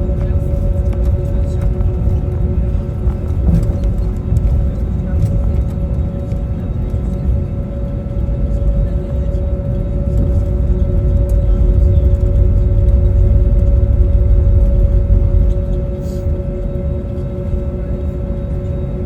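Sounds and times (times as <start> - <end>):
low cabin rumble: 0.0 - 19.0
steady whine: 0.0 - 19.0.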